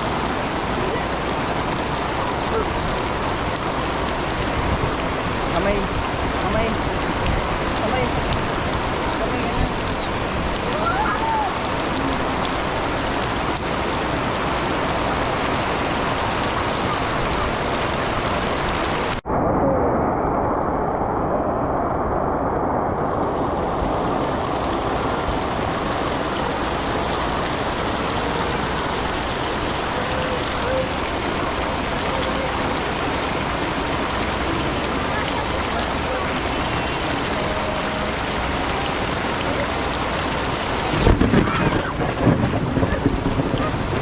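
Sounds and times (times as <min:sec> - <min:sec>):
steady rainfall: 0:00.0 - 0:19.3, 0:20.1 - 0:44.0.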